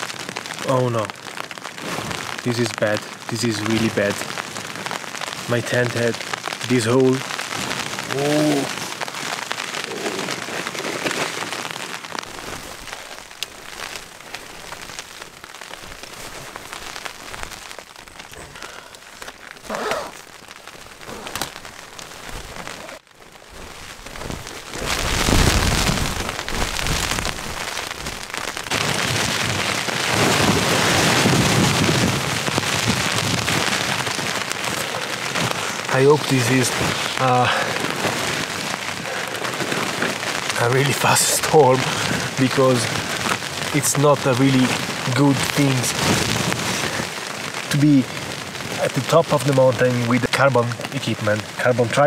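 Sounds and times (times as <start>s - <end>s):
low rumble of downpour: 0.0s - 52.0s
rain pattering on tent: 0.0s - 52.0s.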